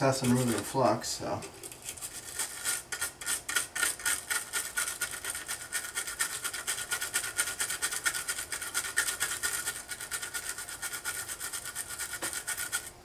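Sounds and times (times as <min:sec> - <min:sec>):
stiff brush scrubbing circuit board: 0:00.0 - 0:01.0, 0:01.6 - 0:13.0.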